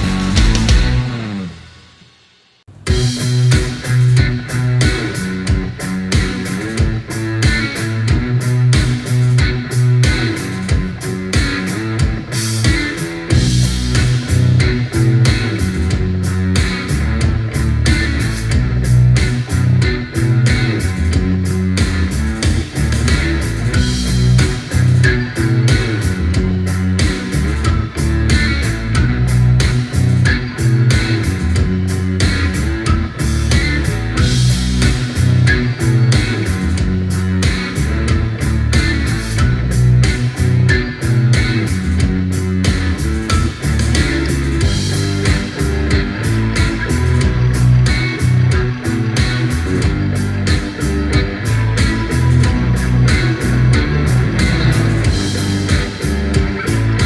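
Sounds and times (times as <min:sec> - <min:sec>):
rock music with guitar and bass: 0:00.0 - 0:01.8, 0:02.7 - 0:57.0.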